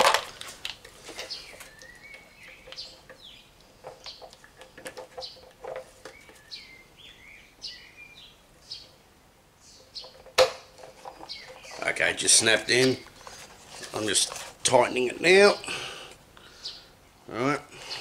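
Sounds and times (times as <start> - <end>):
birds chirping: 1.0 - 18.0.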